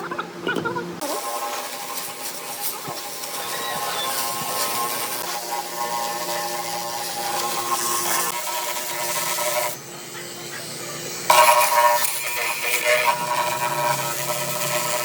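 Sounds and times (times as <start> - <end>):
power tool motor whining: 1.0 - 15.0.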